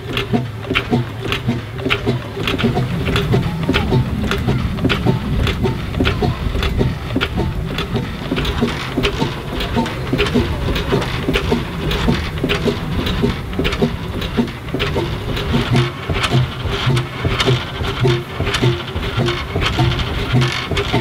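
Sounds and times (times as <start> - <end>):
steam engine clattering: 0.0 - 21.0
steam hiss: 0.0 - 21.0.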